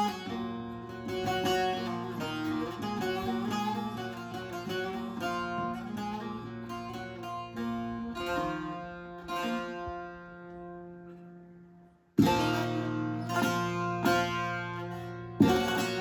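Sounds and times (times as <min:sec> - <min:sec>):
plucked lute notes: 0:00.0 - 0:16.0.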